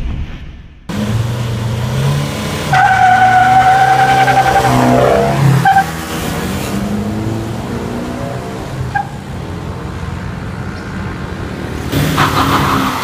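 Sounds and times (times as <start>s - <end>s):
pickup engine accelerating: 0.9s - 13.0s.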